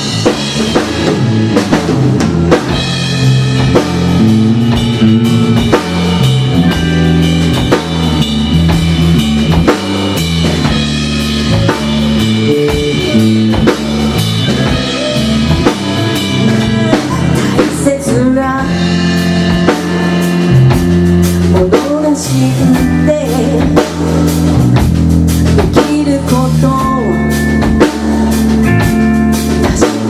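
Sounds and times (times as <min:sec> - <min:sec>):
drum kit beat: 0:00.0 - 0:30.0
live rock band playing: 0:00.0 - 0:30.0.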